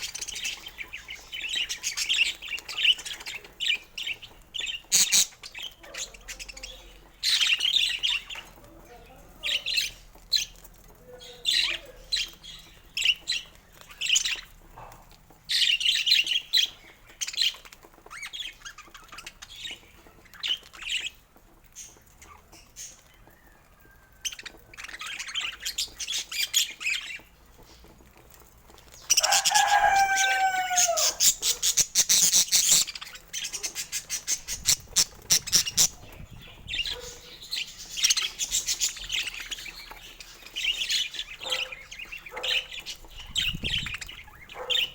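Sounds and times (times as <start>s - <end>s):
budgerigars chirping and chattering: 0.0s - 44.9s.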